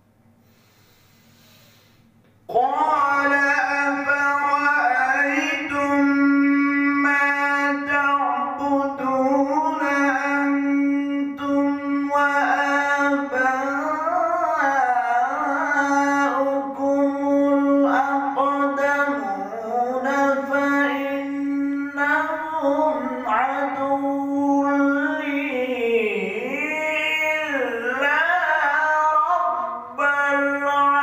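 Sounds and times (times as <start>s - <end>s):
man chanting melodically: 2.5s - 31.0s.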